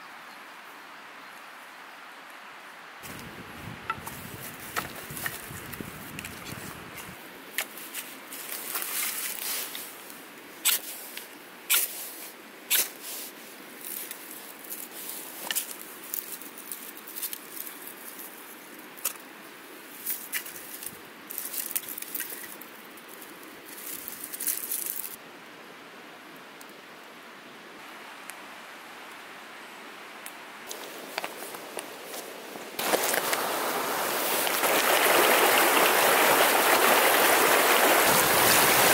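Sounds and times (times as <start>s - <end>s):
small fire crackling and hissing: 0.0s - 38.9s.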